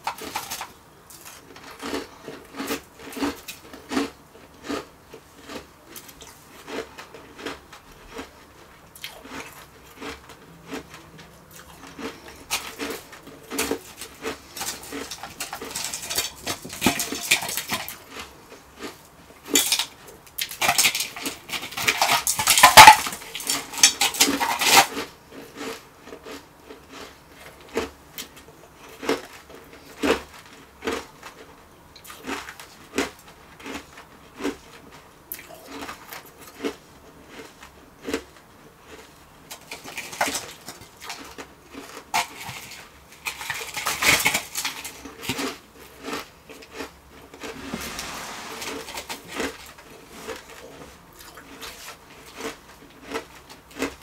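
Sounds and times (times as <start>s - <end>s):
chewing ice crunches: 0.0s - 47.6s, 50.1s - 54.0s.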